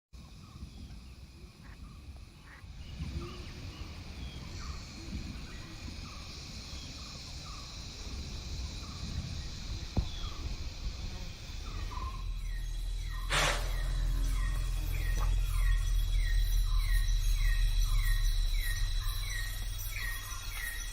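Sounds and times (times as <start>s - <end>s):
insects chorus: 0.2s - 20.9s
low rumble: 0.4s - 20.9s.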